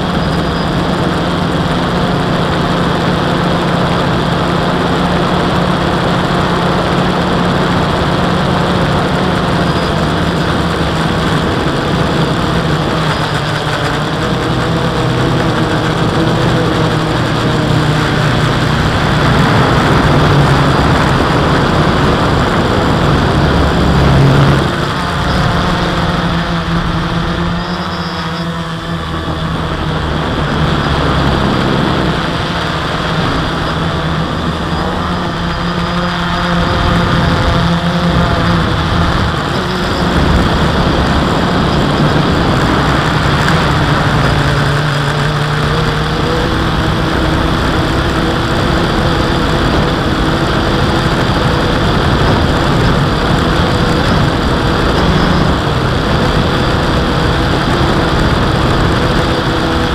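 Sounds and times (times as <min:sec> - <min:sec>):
drone motors humming: 0:00.0 - 0:59.9
propeller wash rushing: 0:00.0 - 0:59.9.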